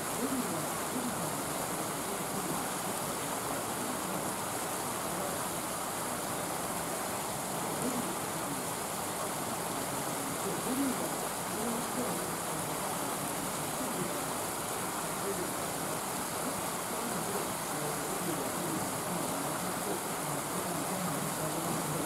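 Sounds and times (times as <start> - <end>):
faint distant voices: 0.0 - 22.0.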